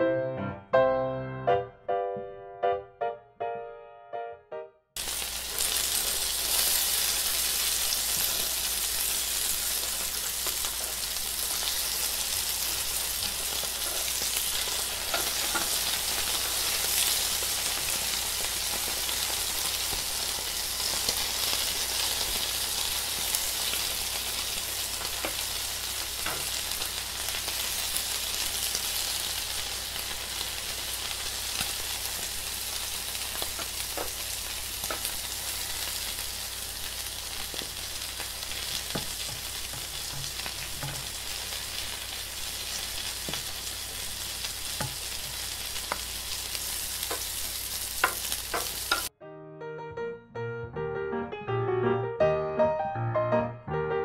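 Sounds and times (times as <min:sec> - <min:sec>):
batter sizzling in oil: 0:05.0 - 0:49.1.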